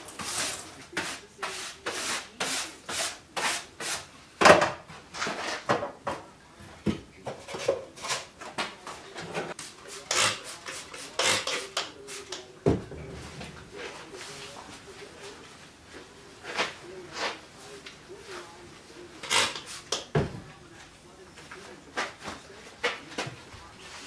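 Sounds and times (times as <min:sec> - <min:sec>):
clutter scraping and rubbing: 0:00.0 - 0:04.1, 0:04.7 - 0:06.1, 0:06.7 - 0:24.0.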